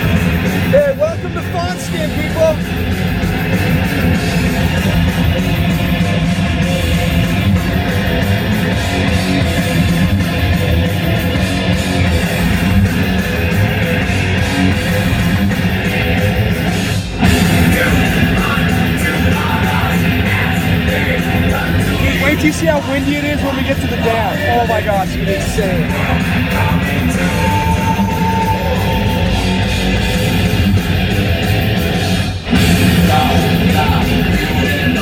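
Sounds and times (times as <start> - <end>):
rock music on car stereo: 0.0 - 35.0.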